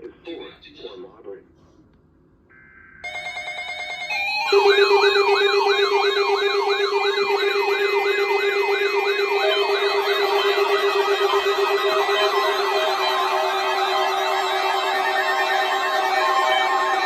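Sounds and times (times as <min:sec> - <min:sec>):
pulsing multi-tone buzz: 0:03.0 - 0:17.0
siren-like yelp: 0:03.0 - 0:17.0.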